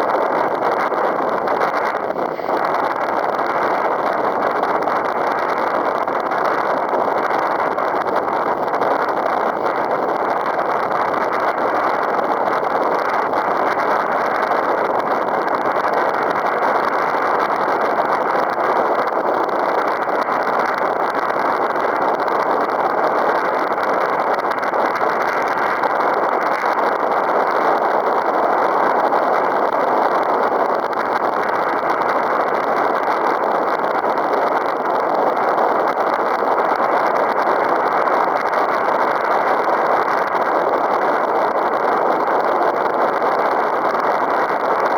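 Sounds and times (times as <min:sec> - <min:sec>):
strong wind on microphone: 0:00.0 - 0:44.9.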